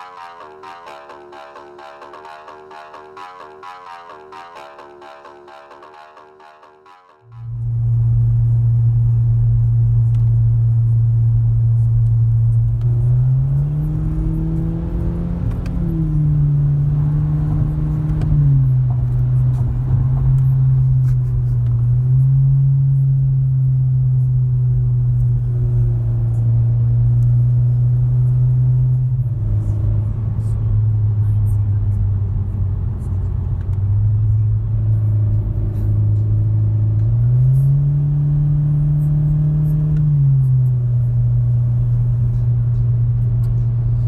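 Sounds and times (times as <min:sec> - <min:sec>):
car exhaust drone: 0:00.0 - 0:44.0.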